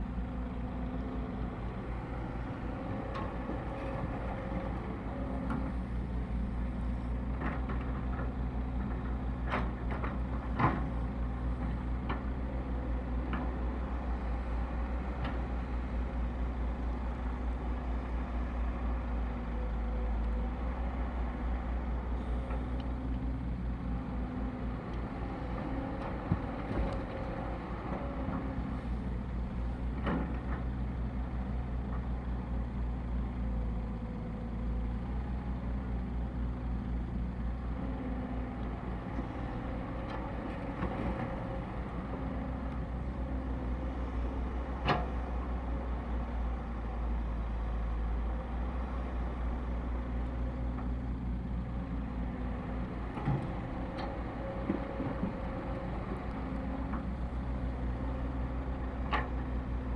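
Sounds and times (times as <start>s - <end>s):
excavator engine drone: 0.0s - 59.9s.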